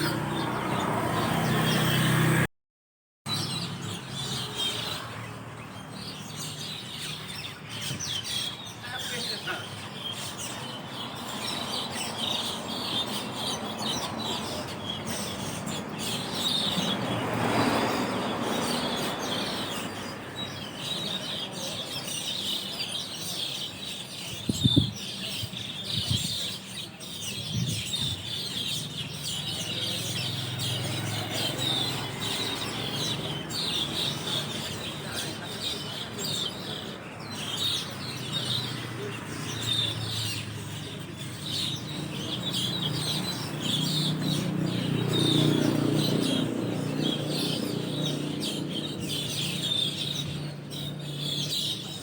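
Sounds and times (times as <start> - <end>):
flock of starlings chattering: 0.0 - 2.4, 3.3 - 52.0.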